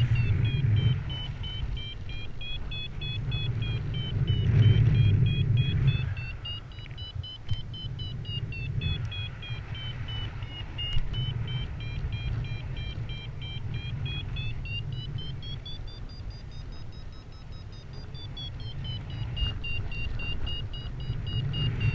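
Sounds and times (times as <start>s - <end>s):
wind on microphone: 0.0s - 17.2s, 17.8s - 21.9s
variometer short beeps: 0.0s - 21.9s.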